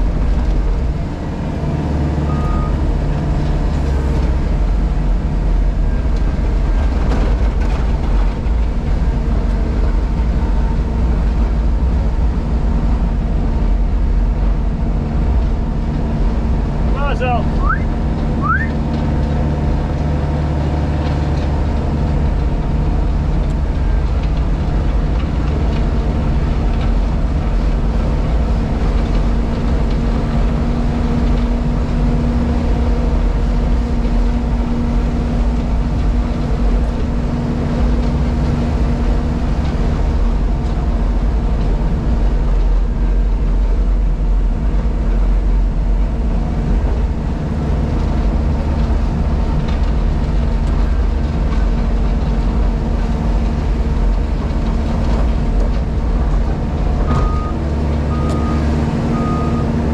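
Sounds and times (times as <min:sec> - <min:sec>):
diesel engine and hydraulics running: 0:00.0 - 0:59.9.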